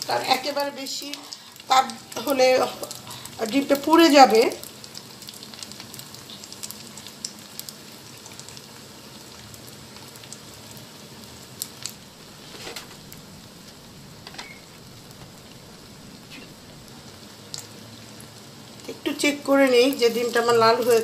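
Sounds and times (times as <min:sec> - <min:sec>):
eggs sizzling in a pan: 0:00.0 - 0:21.0
oil popping and crackling: 0:00.0 - 0:21.0.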